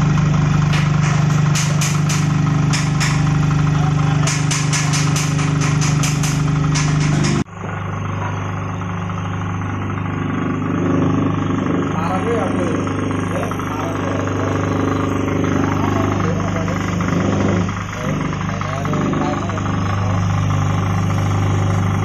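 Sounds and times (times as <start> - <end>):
lower steady machine hum: 0.0 - 22.0
vibrating sieve machine humming: 0.0 - 22.0.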